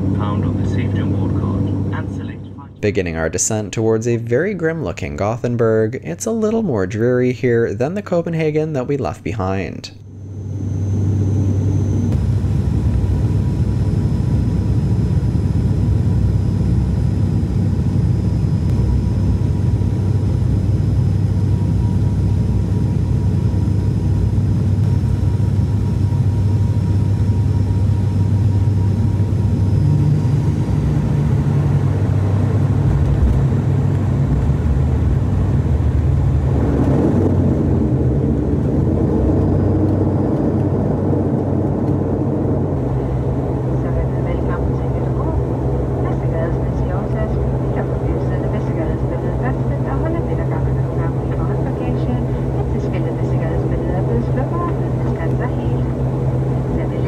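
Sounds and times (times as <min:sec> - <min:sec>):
propeller plane cabin drone: 0:00.0 - 0:02.8, 0:09.9 - 0:57.0
higher hum: 0:10.0 - 0:57.0.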